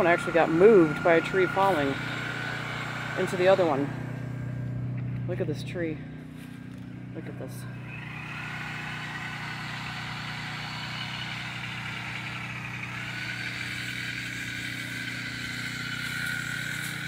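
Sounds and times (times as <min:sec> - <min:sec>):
generator hum: 0:00.0 - 0:17.0
generator whine: 0:00.0 - 0:17.0.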